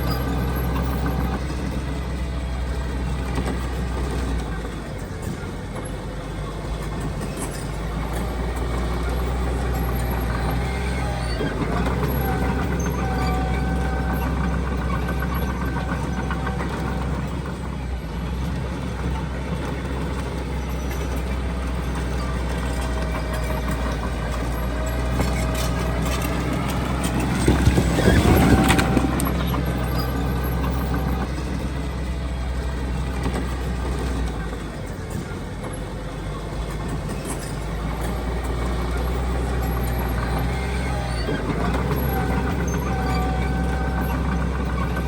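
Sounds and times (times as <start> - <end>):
heavy diesel machinery drone: 0.0 - 45.0.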